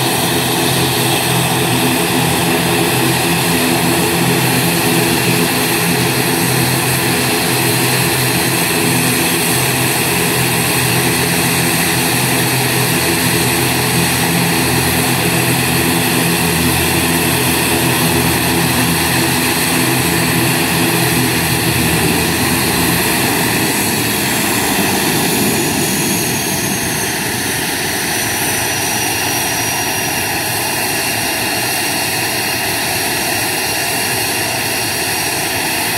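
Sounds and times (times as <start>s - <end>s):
propeller drone: 0.0s - 35.9s
turbine whine: 0.0s - 35.9s.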